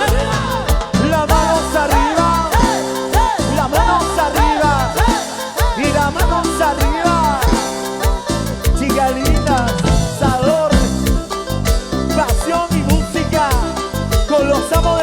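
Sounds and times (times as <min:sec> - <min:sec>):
live cumbia band playing: 0:00.0 - 0:15.0.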